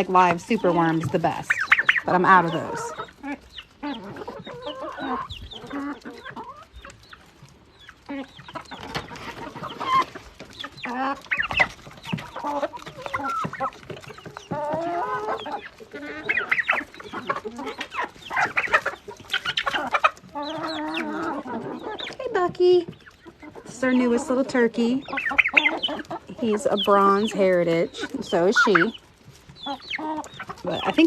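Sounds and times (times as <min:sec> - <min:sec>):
chickens clucking and calling: 0:00.0 - 0:31.0.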